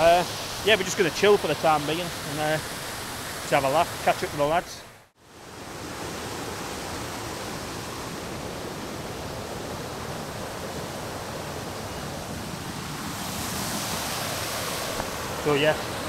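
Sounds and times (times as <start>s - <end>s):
waterfall rushing: 0.0s - 4.7s, 5.8s - 16.0s.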